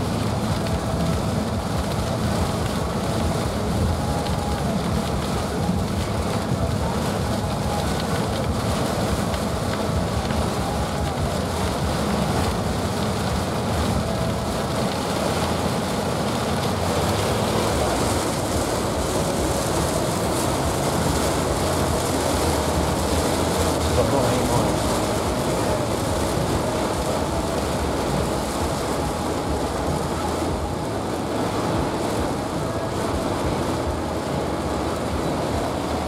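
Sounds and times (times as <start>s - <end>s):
heavy rain on a vehicle: 0.0s - 36.0s
road noise inside car: 0.0s - 36.0s.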